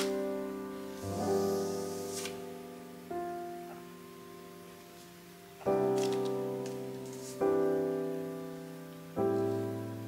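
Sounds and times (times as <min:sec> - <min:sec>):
piano chords ringing: 0:00.0 - 0:10.0.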